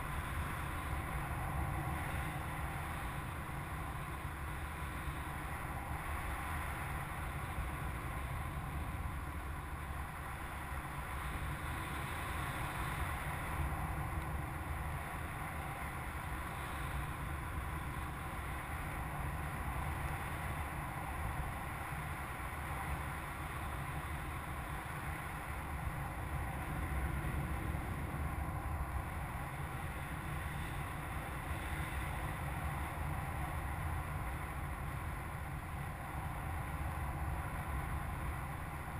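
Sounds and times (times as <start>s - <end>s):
rush of air over microphone: 0.0s - 38.9s.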